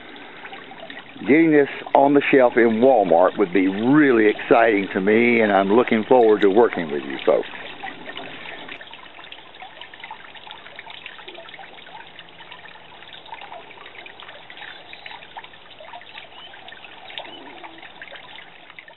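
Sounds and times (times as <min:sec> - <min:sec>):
small drips splashing: 0:00.0 - 0:18.9
water trickling in stone fountain: 0:00.0 - 0:18.9.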